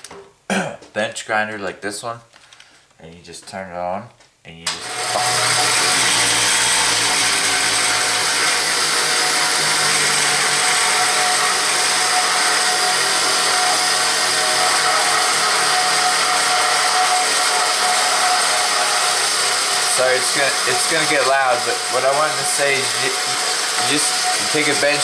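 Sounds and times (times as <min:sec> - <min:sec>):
bench grinder whining: 0:04.7 - 0:25.0.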